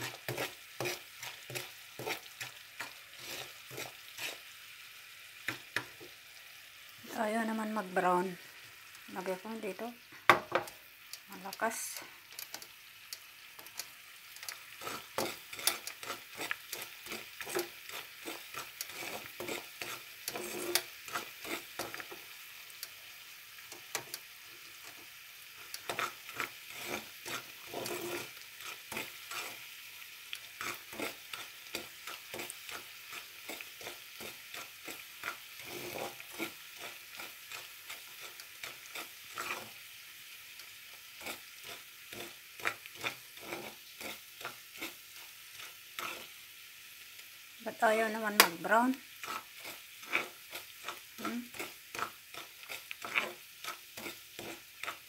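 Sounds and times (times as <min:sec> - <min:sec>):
metal spoon scraping a pan: 0:00.0 - 0:04.5, 0:10.3 - 0:22.7, 0:23.6 - 0:40.0, 0:40.6 - 0:46.4, 0:48.2 - 0:55.0
sugar sizzling: 0:00.0 - 0:55.0.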